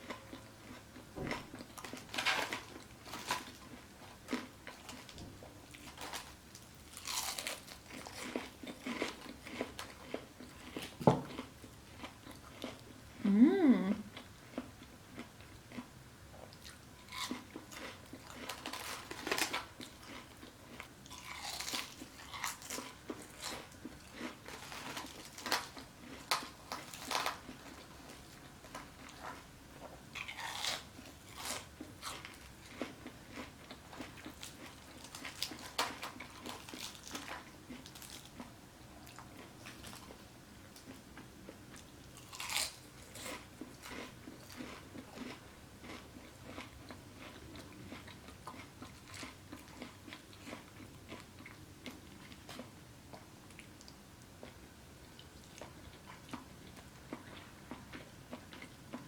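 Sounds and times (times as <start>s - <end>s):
chewing crunchy fried food: 0.0s - 59.0s.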